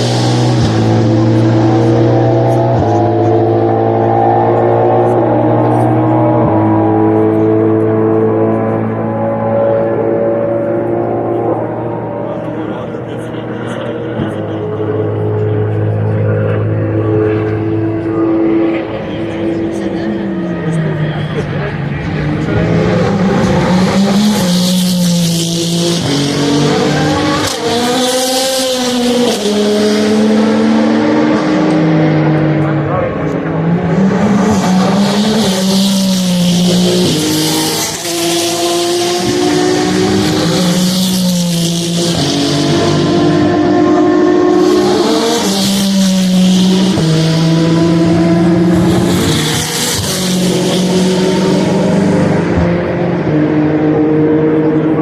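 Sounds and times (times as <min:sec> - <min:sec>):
race car engines at high revs: 0:00.0 - 0:55.0.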